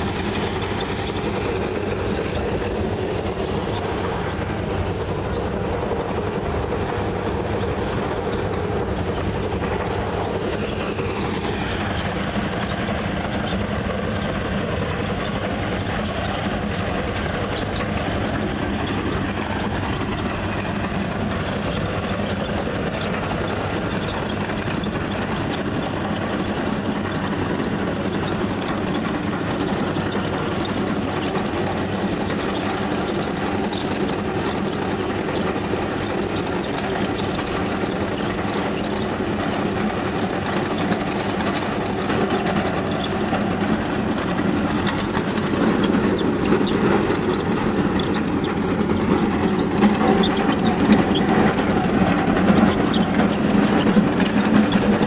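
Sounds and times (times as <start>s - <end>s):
trencher engine under load: 0.0s - 55.0s.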